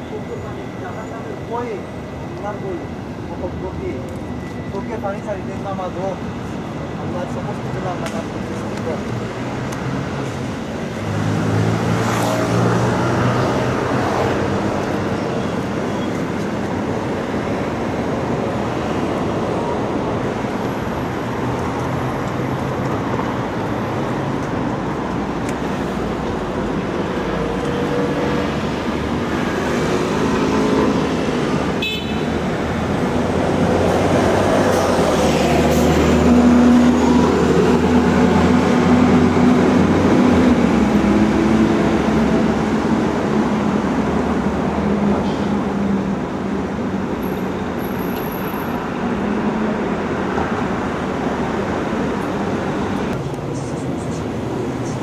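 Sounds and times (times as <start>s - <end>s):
road noise: 0.0s - 55.0s
vehicle engines passing: 7.2s - 55.0s.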